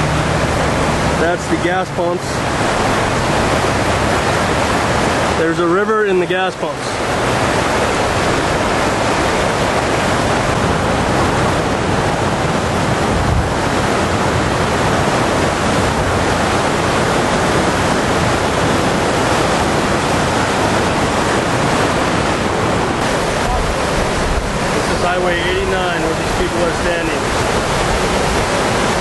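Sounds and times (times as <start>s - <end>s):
wind buffeting microphone: 0.0s - 5.6s, 6.6s - 29.0s
water rushing: 0.0s - 29.0s.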